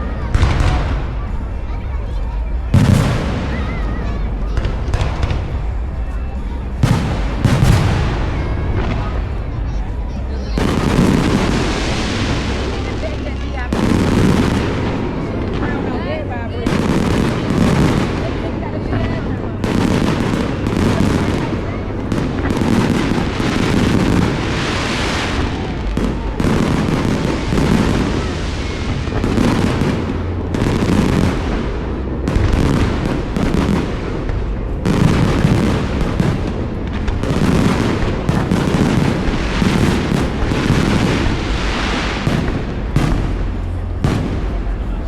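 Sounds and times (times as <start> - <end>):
fireworks booming and banging: 0.0 - 45.0.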